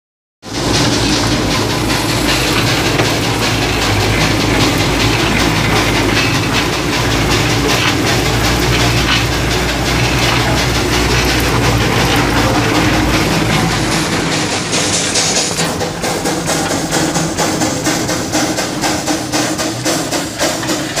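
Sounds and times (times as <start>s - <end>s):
steam engine mechanical clatter: 0.4s - 21.0s.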